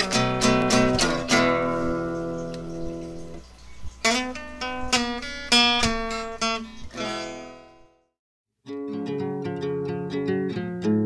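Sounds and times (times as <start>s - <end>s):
acoustic guitar strumming: 0.0s - 8.0s, 8.7s - 11.0s.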